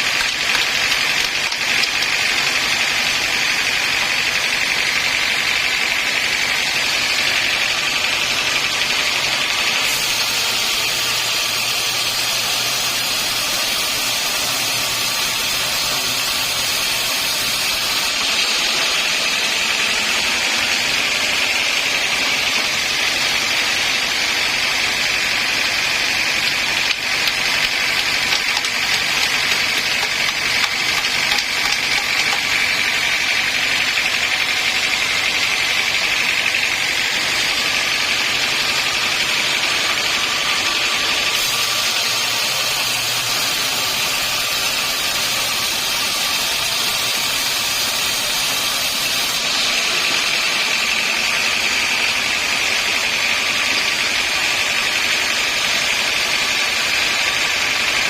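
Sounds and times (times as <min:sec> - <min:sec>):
sawmill saw whining through log: 0:00.0 - 0:58.0.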